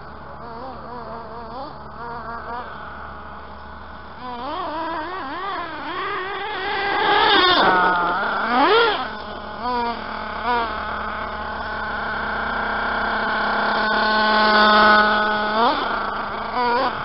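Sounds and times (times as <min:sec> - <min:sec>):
small engine revving with high whine: 0:00.0 - 0:17.0.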